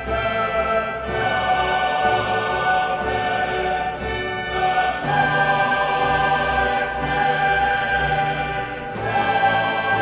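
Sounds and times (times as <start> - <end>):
choir singing held notes: 0.0 - 10.0.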